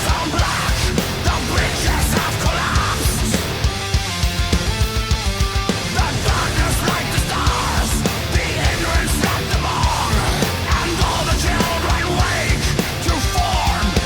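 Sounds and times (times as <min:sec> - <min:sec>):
fast driving drums: 0:00.0 - 0:14.0
heavy metal music: 0:00.0 - 0:14.0.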